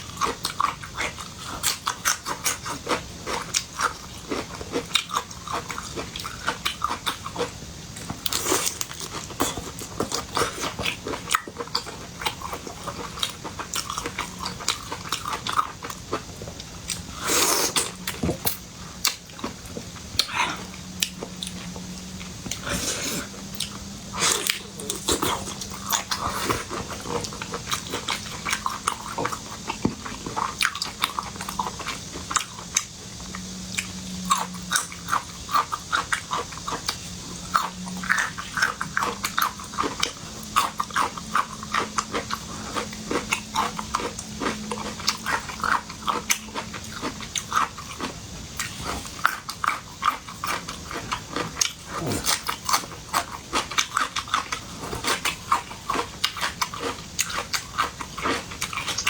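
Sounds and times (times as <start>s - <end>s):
person chewing wetly: 0.0s - 59.0s.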